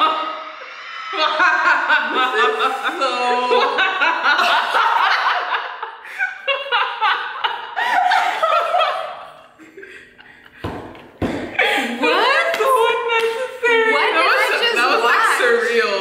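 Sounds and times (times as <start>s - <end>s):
women laughing: 0.0s - 10.7s, 11.4s - 15.7s.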